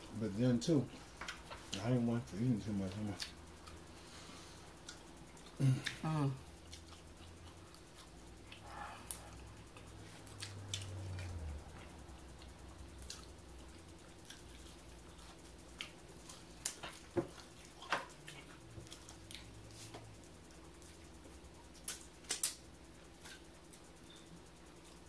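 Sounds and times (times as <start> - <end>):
chewing and lip-smacking: 2.8 - 3.9, 4.6 - 25.0.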